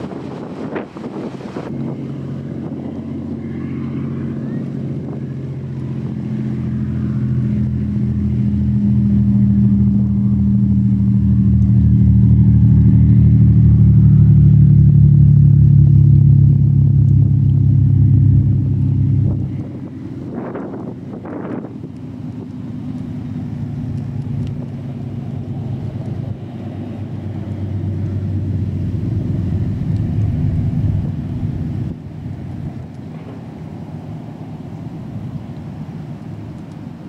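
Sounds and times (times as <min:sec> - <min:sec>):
ferry engines droning: 0:00.0 - 0:37.0.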